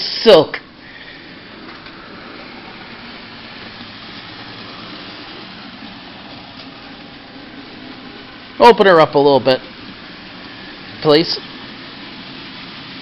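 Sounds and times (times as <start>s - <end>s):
model train motor hum: 0.8s - 13.0s.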